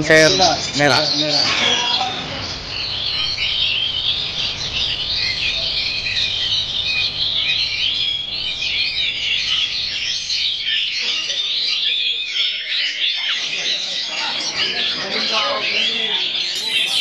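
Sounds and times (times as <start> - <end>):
birds chirping and whistling: 0.0 - 14.6, 15.6 - 17.0.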